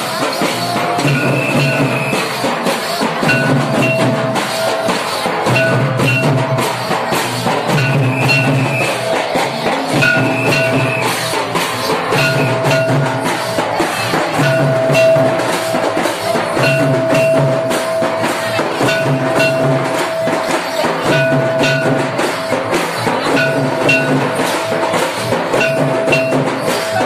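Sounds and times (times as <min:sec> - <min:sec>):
hand cymbal clashing: 0:00.0 - 0:27.0
hand drums beating fast: 0:00.0 - 0:27.0.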